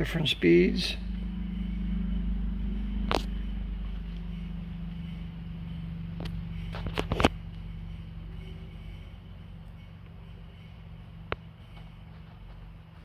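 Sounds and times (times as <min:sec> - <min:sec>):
milling machine motor hum: 0:00.0 - 0:13.0.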